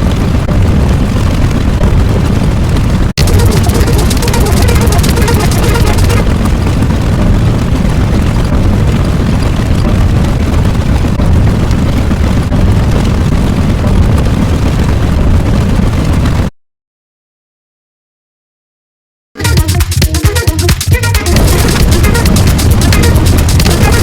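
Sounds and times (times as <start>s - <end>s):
deep rumbling: 0.0s - 16.4s, 19.4s - 24.0s.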